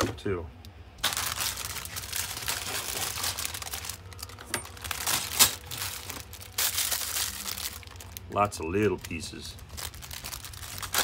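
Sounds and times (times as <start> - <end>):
plastic bag crinkling: 1.0 - 11.0.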